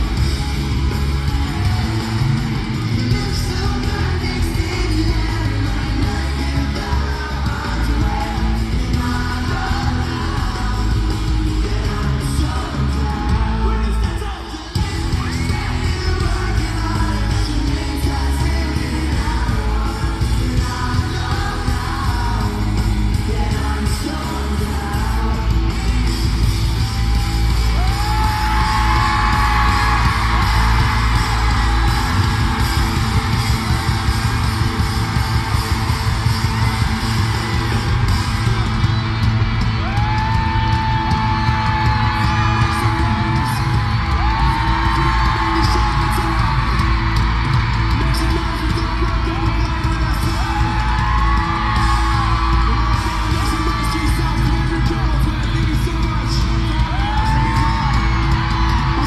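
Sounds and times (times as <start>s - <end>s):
crowd yelling and screaming: 0.0s - 59.0s
rock band playing live: 0.0s - 59.0s.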